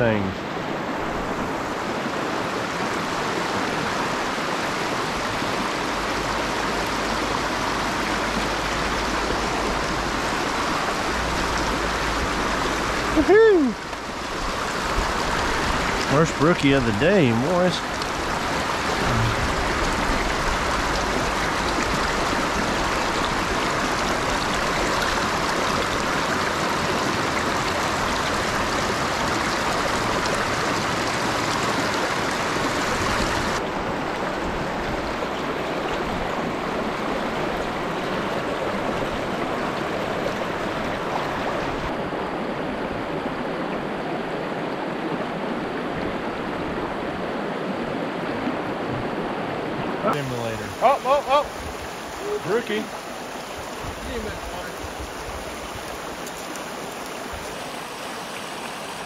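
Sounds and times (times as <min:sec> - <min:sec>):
creek running over rocks: 0:00.0 - 0:59.0.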